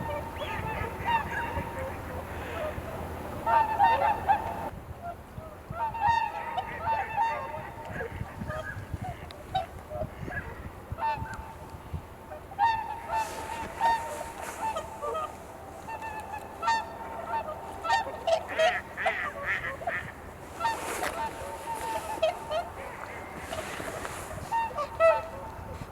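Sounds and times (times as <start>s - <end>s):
swans honking: 0.0s - 4.7s, 5.7s - 11.6s, 12.2s - 25.9s
wind rumble on microphone: 0.0s - 15.4s, 16.2s - 25.9s.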